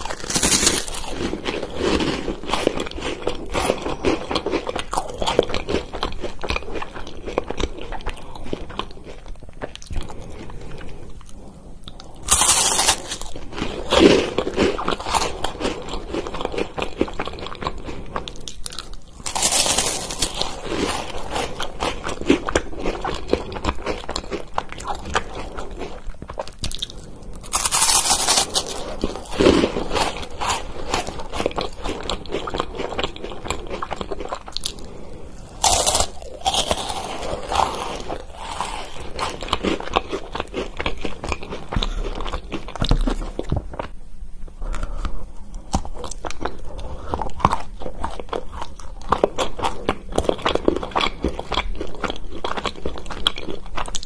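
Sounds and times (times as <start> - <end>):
chocolate wafer crunching: 0.0 - 43.9.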